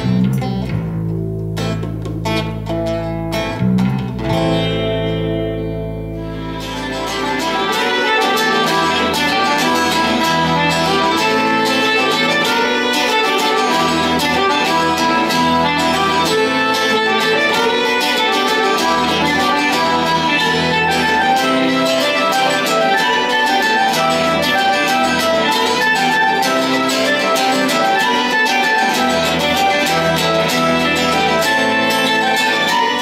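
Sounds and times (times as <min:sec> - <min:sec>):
fast plucked guitar: 0:00.0 - 0:33.0
violin lead: 0:01.7 - 0:33.0.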